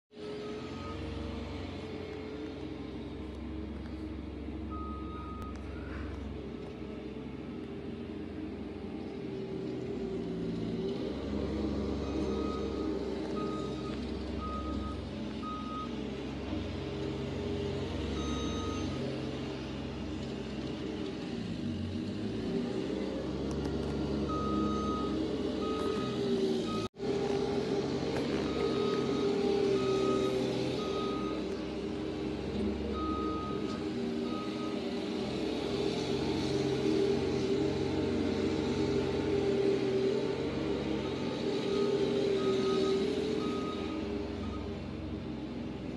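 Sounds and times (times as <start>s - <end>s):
loader engine running: 0.1s - 45.9s.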